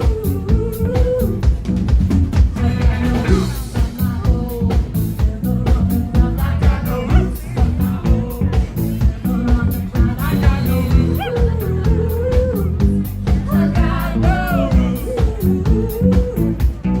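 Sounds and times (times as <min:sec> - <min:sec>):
person singing: 0:00.0 - 0:01.6, 0:02.6 - 0:17.0
drum kit beat: 0:00.0 - 0:17.0
live rock band playing: 0:00.0 - 0:17.0.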